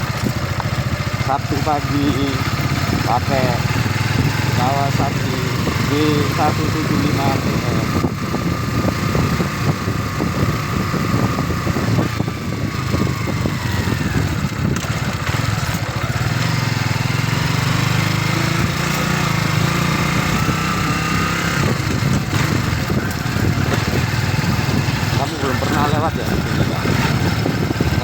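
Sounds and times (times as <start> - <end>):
motorcycle engine running: 0.0 - 28.0
wind noise: 2.4 - 28.0.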